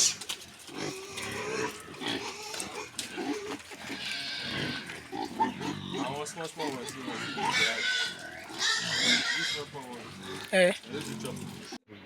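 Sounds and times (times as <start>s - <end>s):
pigs grunting: 0.0s - 12.0s.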